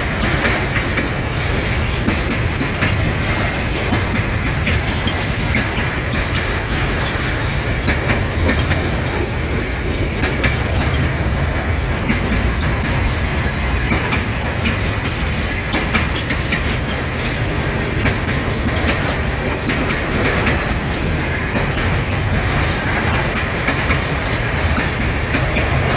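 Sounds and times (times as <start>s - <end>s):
train rumble: 0.0s - 25.9s
train wheels clacking over rail joints: 0.0s - 25.9s.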